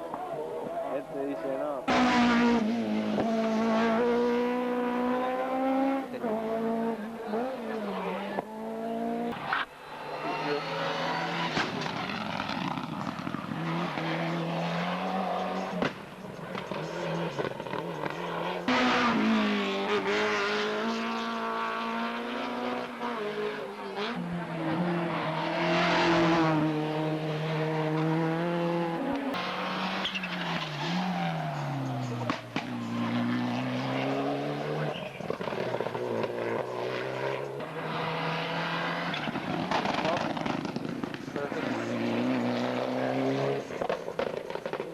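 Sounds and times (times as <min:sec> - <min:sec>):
race car engines revving: 0:00.0 - 0:44.9.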